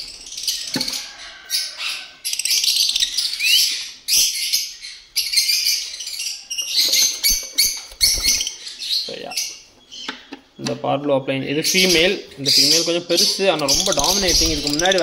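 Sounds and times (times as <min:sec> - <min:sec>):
lovebirds chattering: 0:00.0 - 0:15.0.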